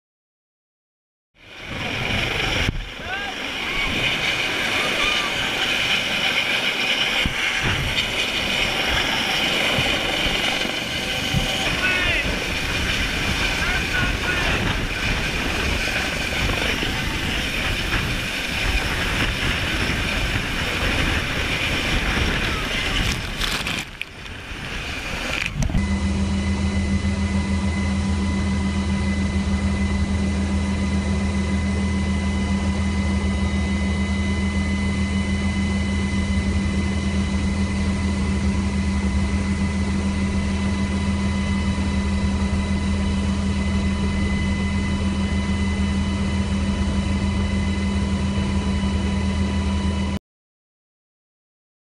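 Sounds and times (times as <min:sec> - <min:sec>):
engine drone with high whine: 0:01.4 - 0:50.2
engine roar: 0:01.4 - 0:50.2.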